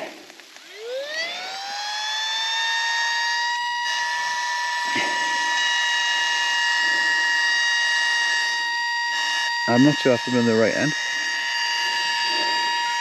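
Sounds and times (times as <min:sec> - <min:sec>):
air pump motor whining: 0:00.0 - 0:13.0.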